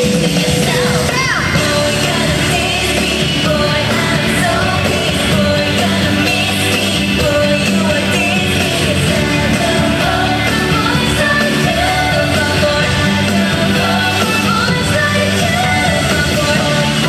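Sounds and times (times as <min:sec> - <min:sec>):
pop song over sound system: 0:00.0 - 0:17.0.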